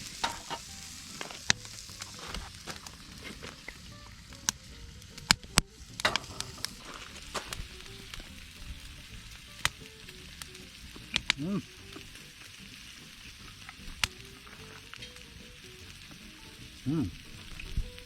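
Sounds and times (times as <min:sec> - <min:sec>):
fat popping and crackling: 0:00.0 - 0:18.0
food sizzling: 0:00.0 - 0:18.0.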